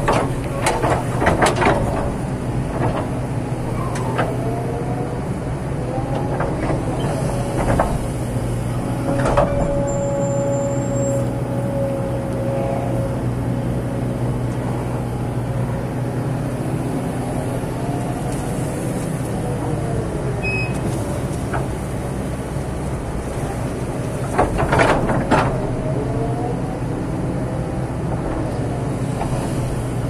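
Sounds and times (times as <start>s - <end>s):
diesel engine under load: 0.0s - 30.0s
hydraulics whining: 0.0s - 30.0s.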